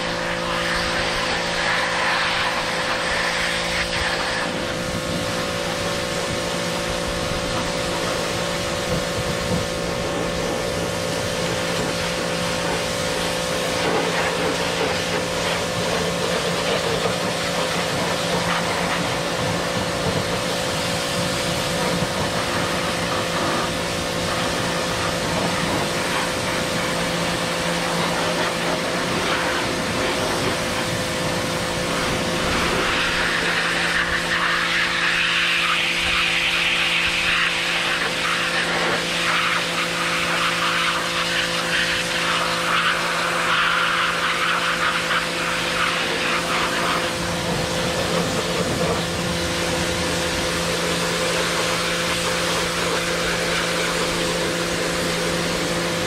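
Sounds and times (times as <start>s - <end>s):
pressure washer spray hissing: 0.0s - 56.0s.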